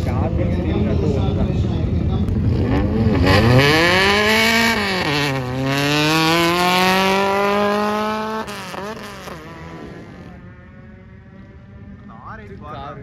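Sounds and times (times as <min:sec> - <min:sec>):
drag racing engine at full throttle: 0:00.0 - 0:12.7.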